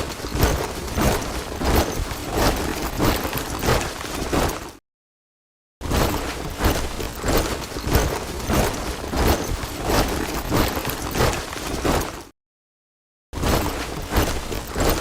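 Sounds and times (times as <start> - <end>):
boots marching in step: 0.0 - 4.8, 6.0 - 12.3, 13.4 - 15.0.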